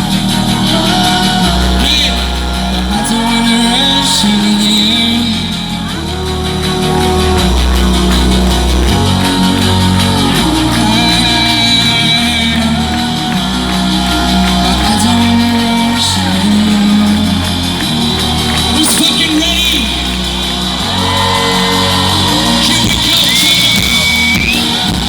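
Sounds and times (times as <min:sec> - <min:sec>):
crowd shouting and whooping: 0:00.0 - 0:25.0
electronic pop band playing: 0:00.0 - 0:25.0
heavy bass line: 0:00.0 - 0:25.0
synth chords: 0:00.0 - 0:25.0.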